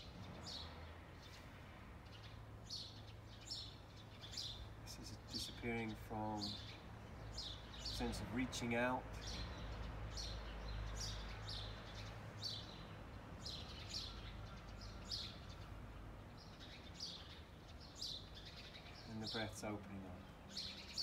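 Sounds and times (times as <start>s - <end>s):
small bird chirping: 0.0s - 8.5s, 9.2s - 21.0s.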